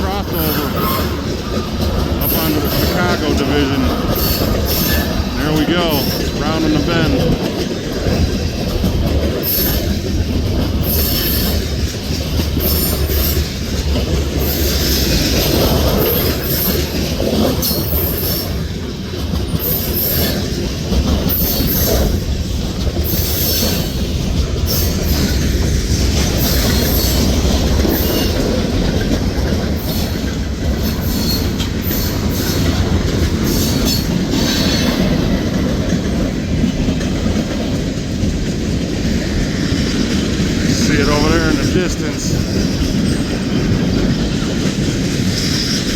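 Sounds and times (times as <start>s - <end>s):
freight train rolling past: 0.0s - 45.9s.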